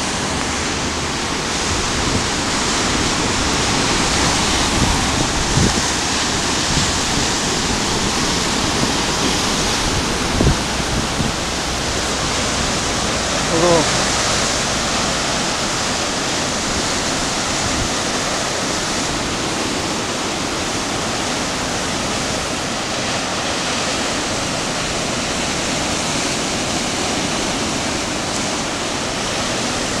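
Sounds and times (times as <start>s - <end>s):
ocean surf breaking over rocks: 0.0s - 30.0s.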